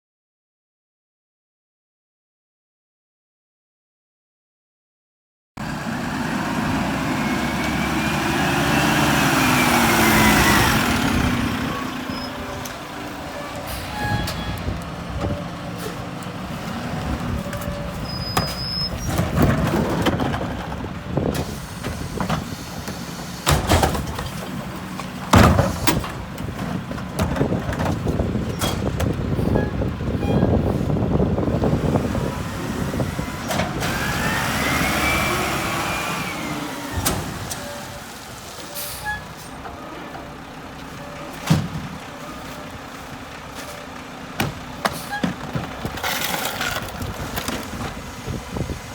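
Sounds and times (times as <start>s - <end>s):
diesel engine running: 5.6s - 48.9s.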